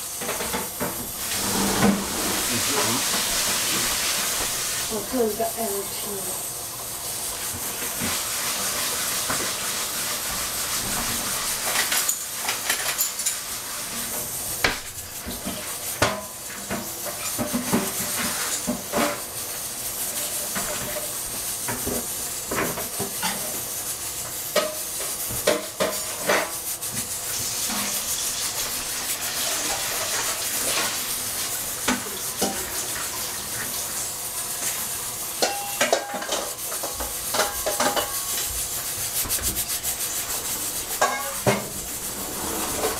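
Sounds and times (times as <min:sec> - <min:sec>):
steam hissing from valve: 0:00.0 - 0:12.5, 0:13.4 - 0:42.9.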